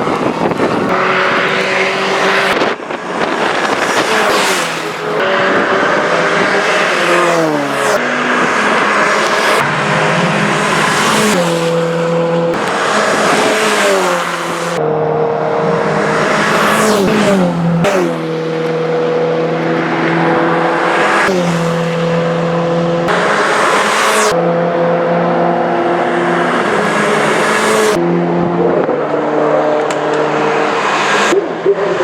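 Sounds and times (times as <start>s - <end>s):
race car engines at high revs: 0.0s - 32.0s.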